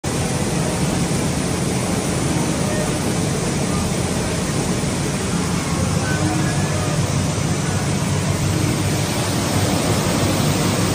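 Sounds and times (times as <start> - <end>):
deep machinery noise: 0.0 - 10.9.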